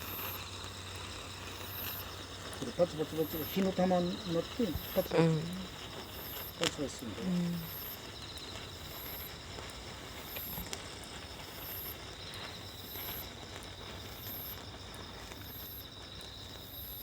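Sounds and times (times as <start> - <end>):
crickets trilling: 0.0 - 17.0
sparkler crackling pops: 0.0 - 17.0.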